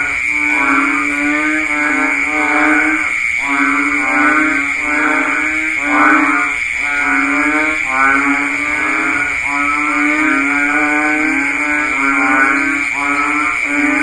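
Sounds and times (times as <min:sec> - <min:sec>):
frogs bleating calls: 0:00.0 - 0:14.0.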